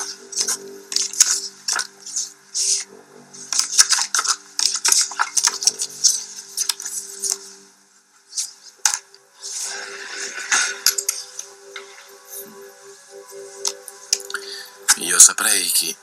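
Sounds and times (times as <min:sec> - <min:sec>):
photo prints rustling and sliding: 0:00.0 - 0:14.2.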